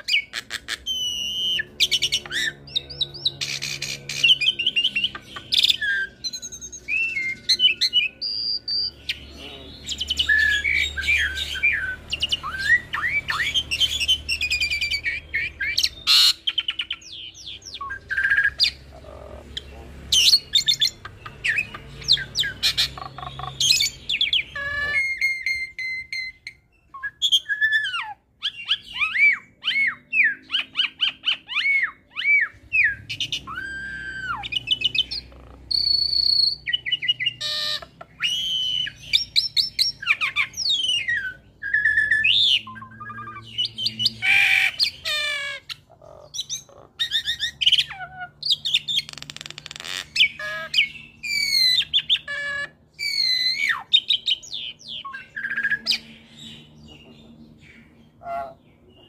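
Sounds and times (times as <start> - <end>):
myna singing whistles and chirps: 0.0 - 18.8, 20.2 - 57.0.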